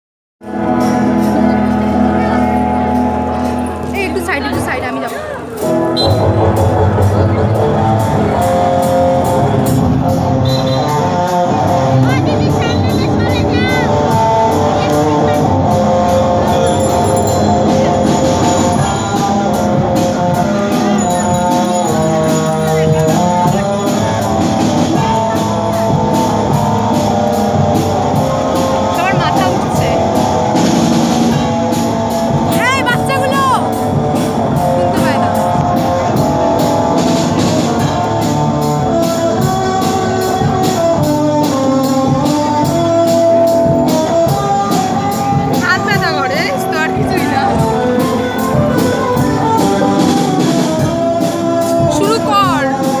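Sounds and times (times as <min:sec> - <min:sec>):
drum kit beat: 0:00.4 - 0:53.0
electric guitars: 0:00.4 - 0:53.0
live rock band playing: 0:00.4 - 0:53.0.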